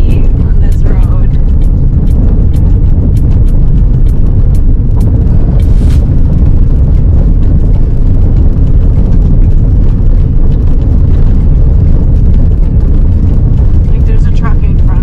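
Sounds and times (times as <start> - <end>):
faint ticks and rattles: 0.0 - 15.0
tyres rumbling on dirt road: 0.0 - 15.0.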